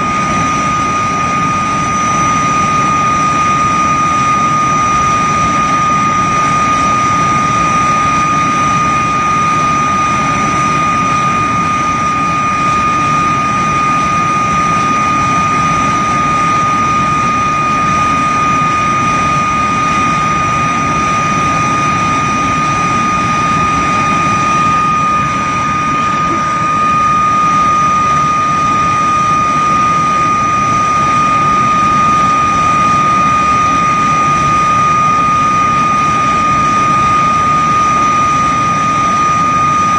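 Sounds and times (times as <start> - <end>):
jet engine heavy rumble: 0.0 - 39.9
jet engine high-pitched whine: 0.0 - 39.9.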